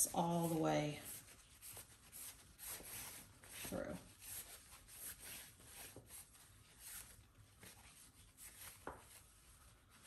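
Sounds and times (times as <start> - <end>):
soft fabric rustling: 0.0 - 10.0.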